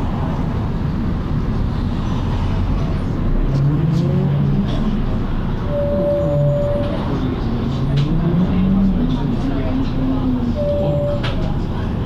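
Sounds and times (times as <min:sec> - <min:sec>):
bus engine and cooling fan drone: 0:00.0 - 0:12.0.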